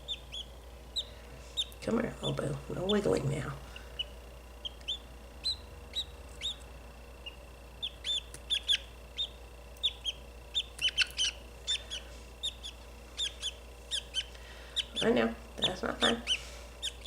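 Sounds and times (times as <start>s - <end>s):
budgerigar chick cheeping: 0.0s - 3.1s, 3.8s - 15.2s, 16.0s - 17.0s.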